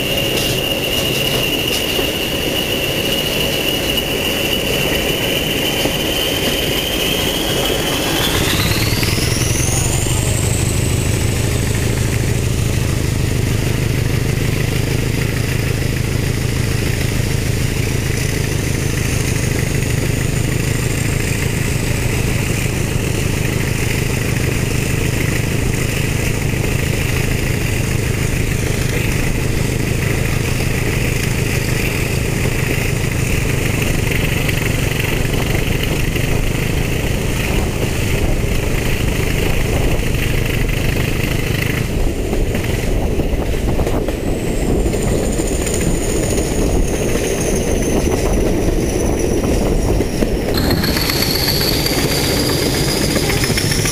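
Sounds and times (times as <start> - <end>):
high whine: 0.0 - 41.8, 44.6 - 53.9
diesel locomotive engine drone: 0.0 - 53.9.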